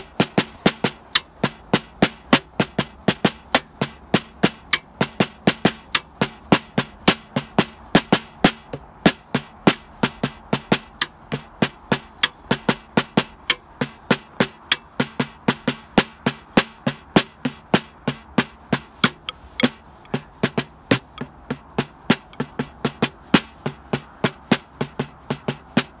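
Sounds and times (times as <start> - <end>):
drum struck with drumsticks: 0.0 - 26.0.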